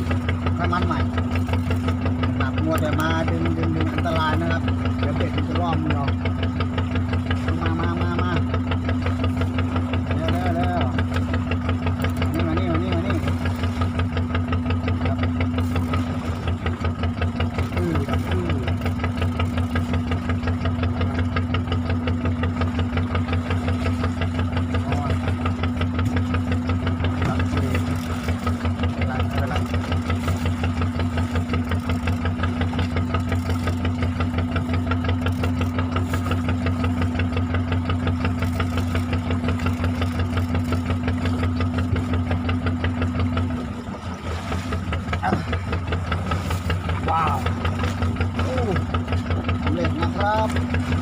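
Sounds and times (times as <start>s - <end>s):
boat engine chugging: 0.0s - 51.0s.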